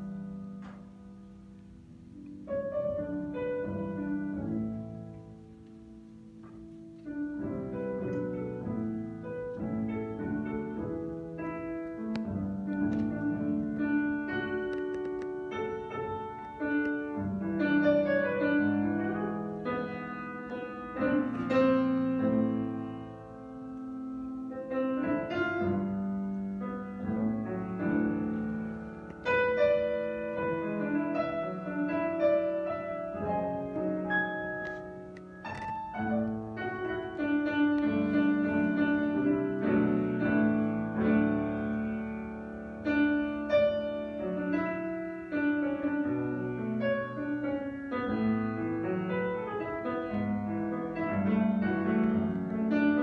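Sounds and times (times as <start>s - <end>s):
grand piano playing chords: 0.0s - 53.0s.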